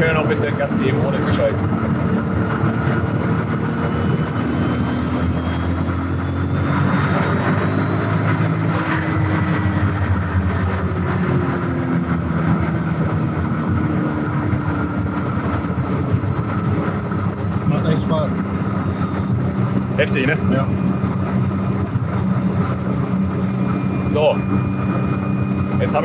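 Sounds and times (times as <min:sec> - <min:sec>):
car engine accelerating: 0:00.0 - 0:26.0
turbo whine: 0:00.0 - 0:26.0.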